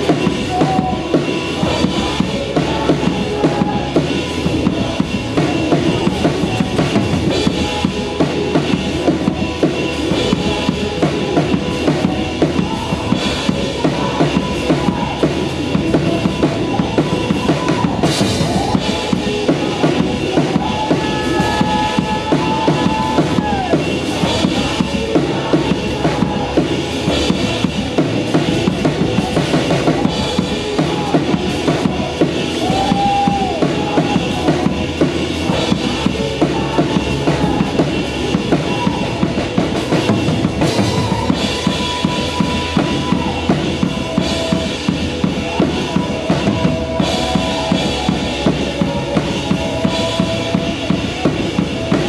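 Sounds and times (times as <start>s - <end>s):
band playing: 0.0s - 52.0s
drum kit beat: 0.0s - 52.0s.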